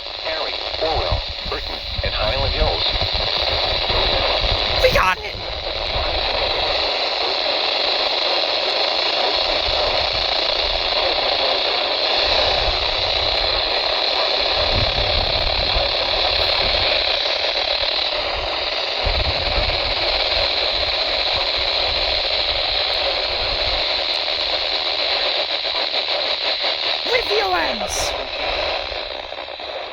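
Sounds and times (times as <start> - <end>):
radio static hiss: 0.0 - 29.9.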